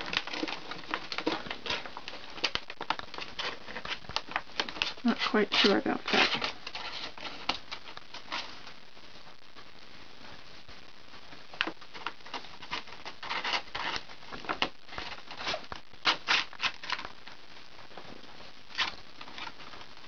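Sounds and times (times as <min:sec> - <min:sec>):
paper bag crackling and rustling: 0:00.0 - 0:08.8, 0:11.3 - 0:20.0.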